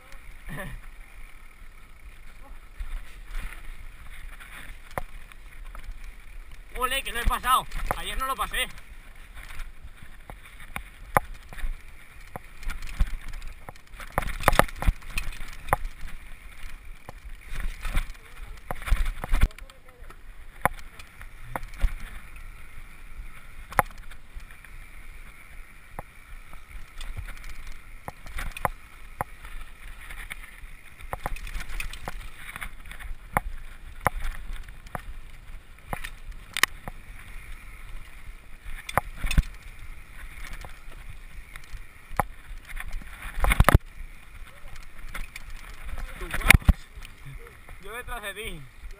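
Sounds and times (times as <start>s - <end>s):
bike knocking and rattling: 0.0s - 48.9s.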